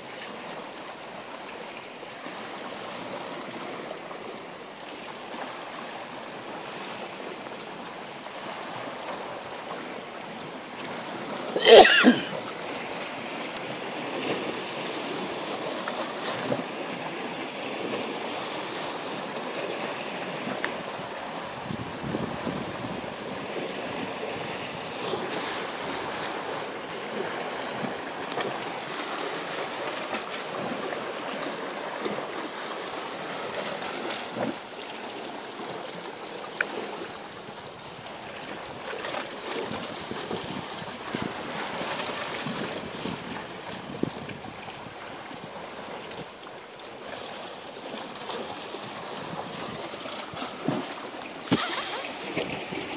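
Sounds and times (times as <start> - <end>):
waves washing against rocks: 0.0 - 52.9.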